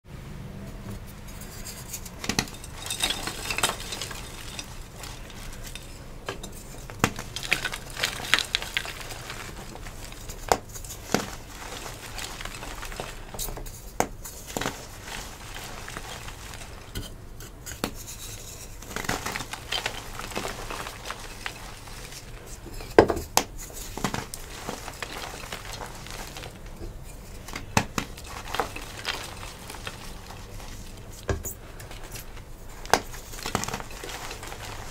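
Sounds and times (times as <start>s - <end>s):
chalk crunching and crumbling: 1.0s - 34.9s.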